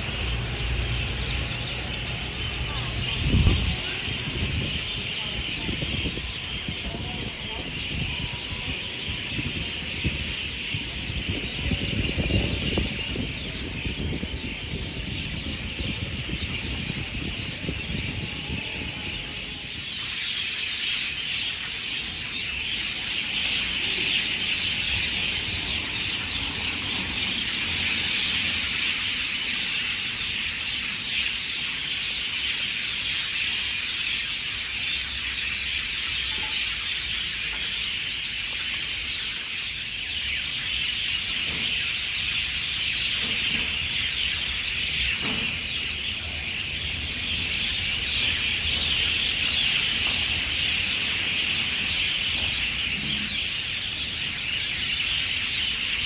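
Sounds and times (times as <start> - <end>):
birds chattering and calling: 0.0 - 56.0.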